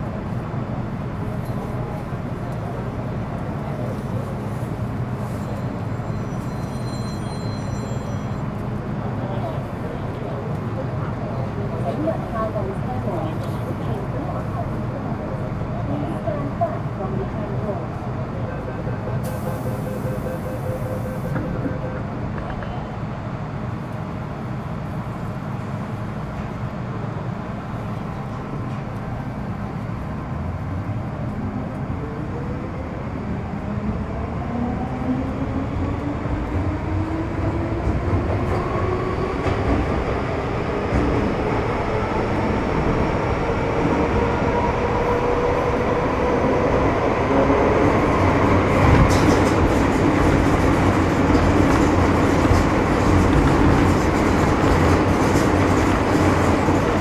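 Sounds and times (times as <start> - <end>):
wheels rumbling on track: 0.0 - 57.0.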